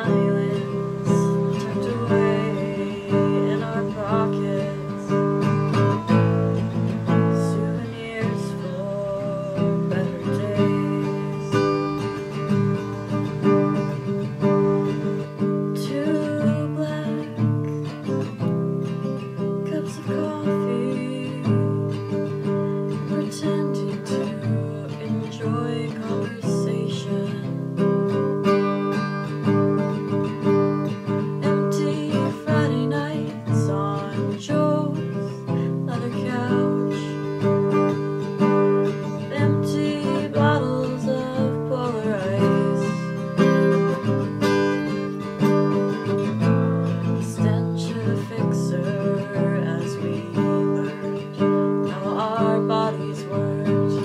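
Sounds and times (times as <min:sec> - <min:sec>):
acoustic guitar strummed slowly: 0:00.0 - 0:54.0.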